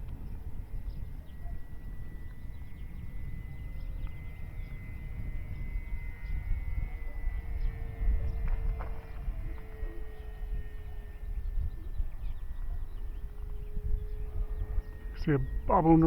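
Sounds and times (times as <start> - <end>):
model plane motor whine: 0.0 - 16.0
wind rumble on microphone: 0.0 - 16.0.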